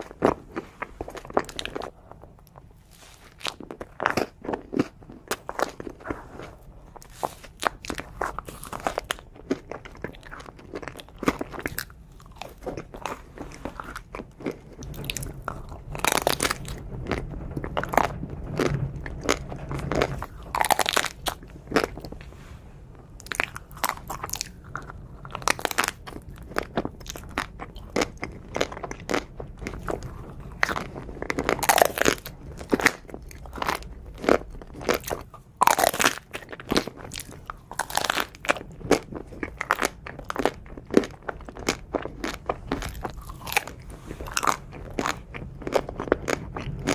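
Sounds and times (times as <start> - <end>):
crunchy chewing: 0.0 - 22.4, 23.0 - 46.9.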